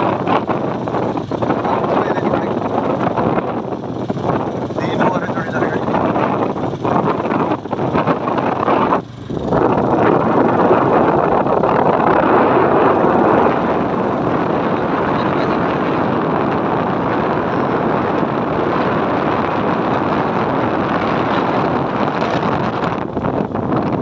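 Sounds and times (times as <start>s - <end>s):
motorcycle engine: 0.0s - 24.0s
road noise: 0.0s - 24.0s
wind on microphone: 0.0s - 24.0s.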